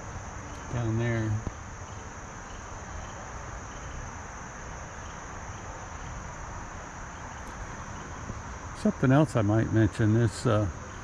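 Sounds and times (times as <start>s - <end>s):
insects trilling: 0.0s - 11.0s
low outdoor rumble: 0.0s - 11.0s.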